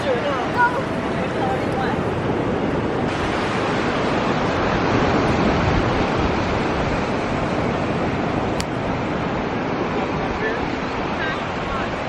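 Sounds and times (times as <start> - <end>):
ocean surf washing: 0.0 - 12.0
wind buffeting microphone: 0.0 - 12.0.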